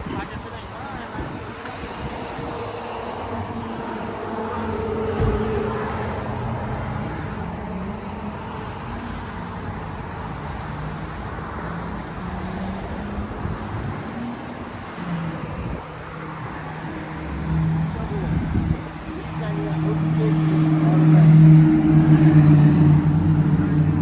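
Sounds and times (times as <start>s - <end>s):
road and traffic noise: 0.0s - 24.0s
low engine hum: 0.9s - 24.0s.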